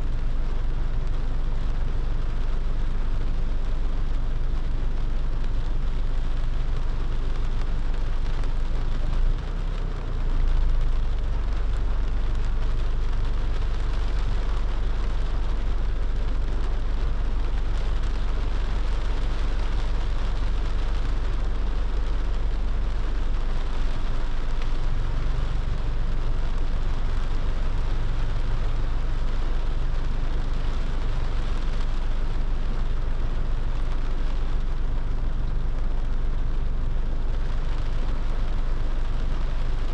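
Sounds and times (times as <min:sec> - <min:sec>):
car road rumble: 0:00.0 - 0:39.9
rain hissing: 0:00.0 - 0:39.9.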